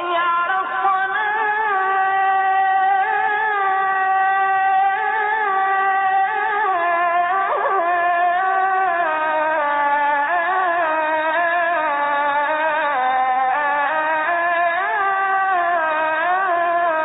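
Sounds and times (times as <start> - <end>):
man chanting call to prayer: 0.0 - 17.0.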